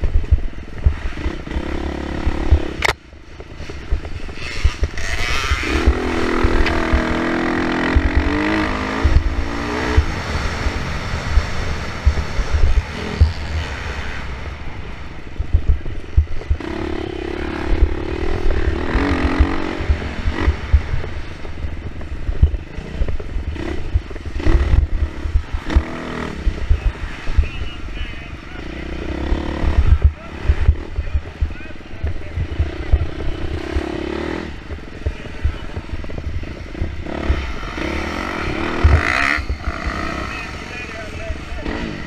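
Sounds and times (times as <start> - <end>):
irregular low thumps: 0.0 - 13.5, 14.5 - 27.7, 29.0 - 40.2
dirt bike engine revving: 0.0 - 42.0.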